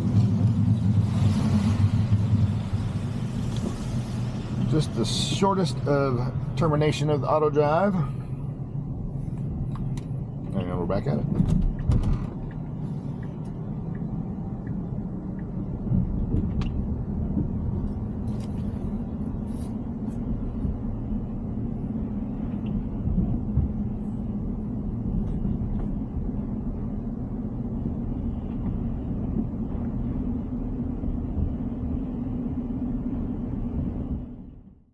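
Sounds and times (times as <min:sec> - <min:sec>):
road and tyre rumble: 0:00.0 - 0:34.9.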